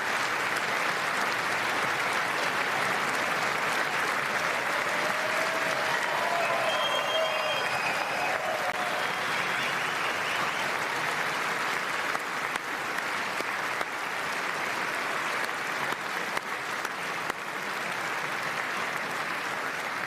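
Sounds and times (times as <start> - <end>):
large audience applauding: 0.0 - 20.0.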